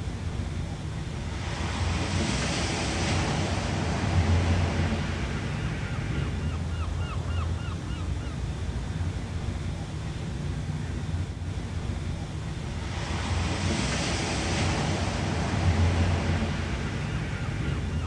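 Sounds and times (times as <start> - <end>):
ocean surf washing in: 0.0 - 7.0, 8.5 - 18.0.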